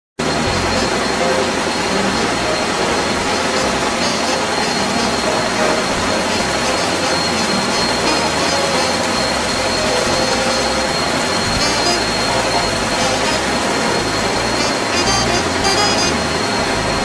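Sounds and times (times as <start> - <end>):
faint high whine: 0.2 - 17.0.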